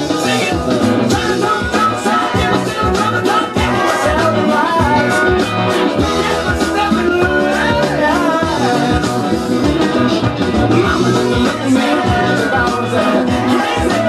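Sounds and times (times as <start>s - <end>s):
funk rock song with male vocals: 0.0s - 14.0s.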